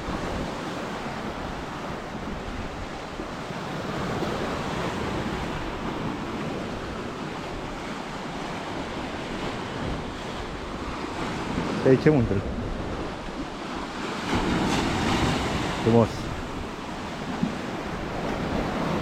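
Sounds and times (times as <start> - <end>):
sea surf washing against shore: 0.0 - 19.0
wind noise on microphone: 0.0 - 19.0.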